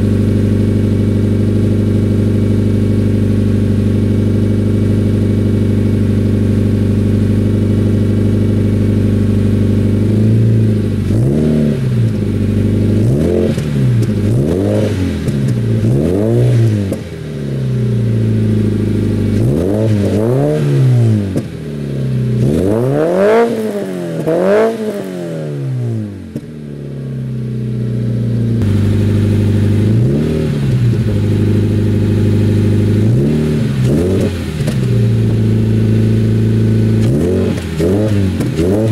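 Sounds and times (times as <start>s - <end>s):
car engine idling: 0.0s - 38.9s
car engine revving: 0.0s - 38.9s.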